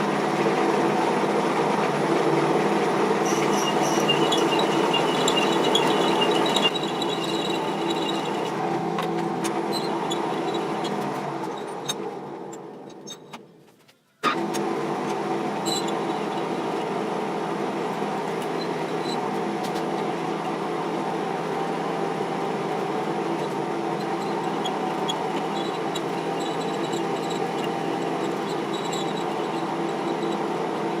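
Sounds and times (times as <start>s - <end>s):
metal lathe whirring: 0.0s - 12.6s, 14.4s - 31.0s.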